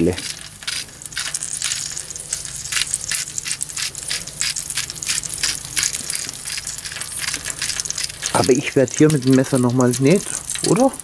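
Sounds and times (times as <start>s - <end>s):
salt container shaking: 0.0s - 10.9s.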